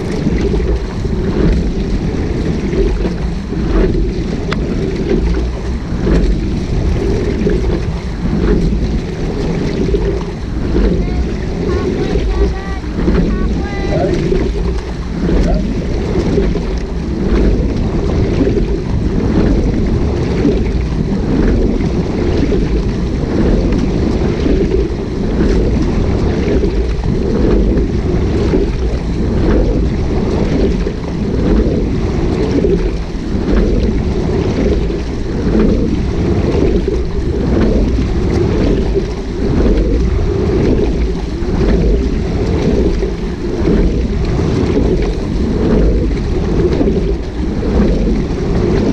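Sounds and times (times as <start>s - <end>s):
water rushing along hull: 0.0s - 48.9s
wind buffeting microphone: 0.0s - 48.9s.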